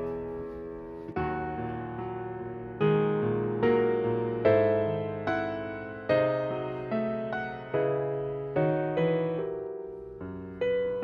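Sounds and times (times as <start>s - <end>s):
slow gentle piano chords: 0.0s - 11.0s.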